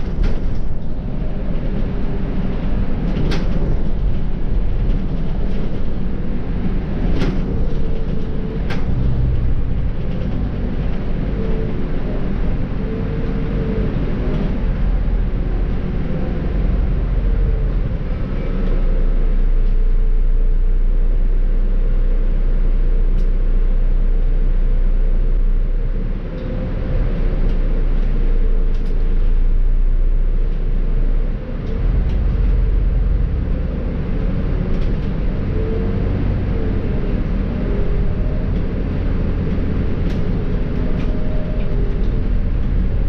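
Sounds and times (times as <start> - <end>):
bus diesel engine rumble: 0.0 - 43.0
road noise: 0.0 - 43.0.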